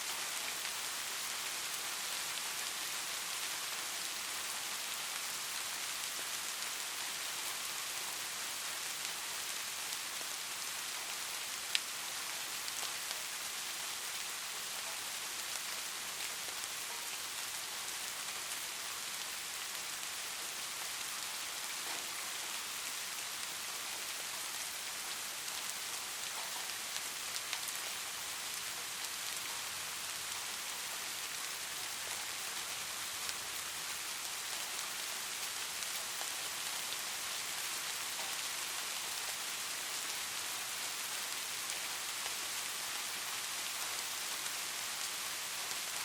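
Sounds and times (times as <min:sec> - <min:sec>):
light rain falling: 0:00.0 - 0:46.0.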